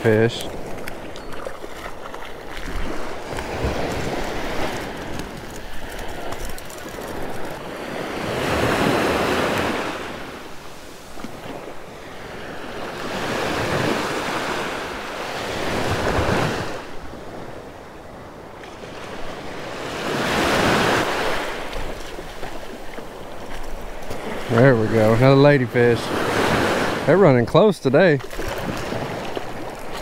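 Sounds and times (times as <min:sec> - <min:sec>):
small surf breaking on beach: 0:02.6 - 0:17.0, 0:18.7 - 0:27.2, 0:28.0 - 0:30.0.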